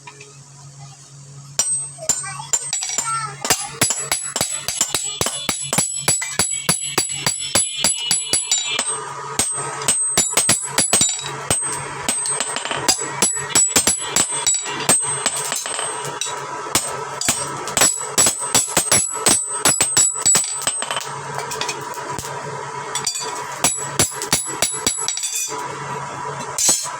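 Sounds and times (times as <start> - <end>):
steady low hum: 0.0 - 26.9
hammer ringing on steel anvil: 1.6 - 21.0, 23.0 - 25.6.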